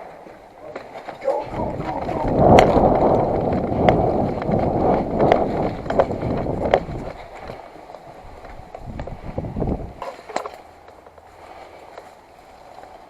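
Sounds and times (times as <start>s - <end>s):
wind rumbling on microphone: 0.0s - 11.7s
clothing and gear rustling: 0.0s - 13.0s
running footsteps: 0.0s - 13.0s.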